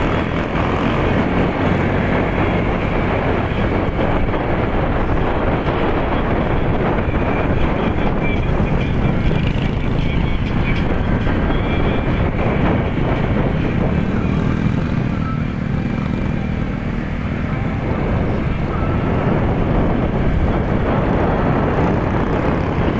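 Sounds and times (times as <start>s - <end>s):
motorcycle engine running: 0.0s - 22.9s
wind rushing over microphone: 0.0s - 22.9s.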